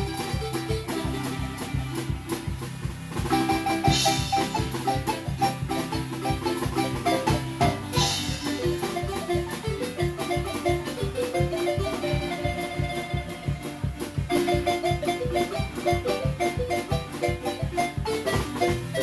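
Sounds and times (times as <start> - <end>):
low beat: 0.0 - 19.0
marimba band playing: 0.0 - 19.0.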